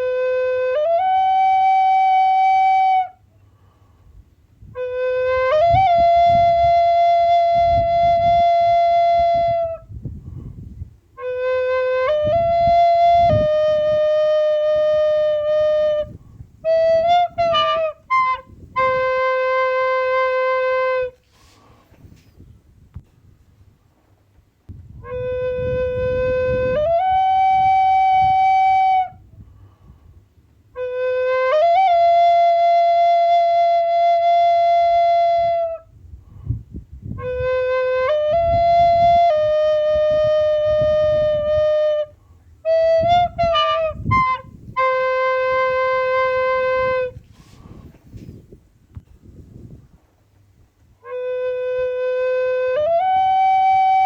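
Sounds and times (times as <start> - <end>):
breathy wind instrument: 0.0 - 22.5, 25.0 - 48.6, 50.9 - 54.0.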